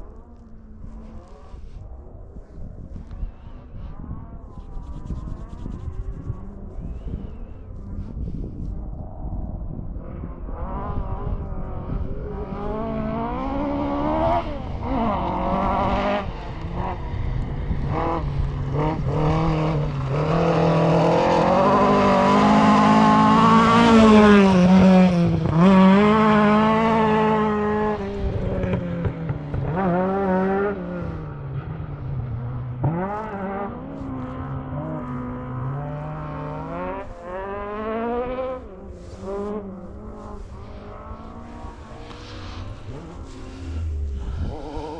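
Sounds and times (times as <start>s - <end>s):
rally car engine revving: 4.2s - 44.9s.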